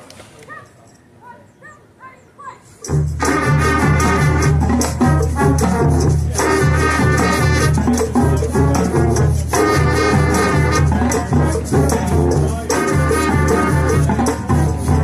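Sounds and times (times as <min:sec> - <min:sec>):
marching band playing: 0:02.9 - 0:15.0.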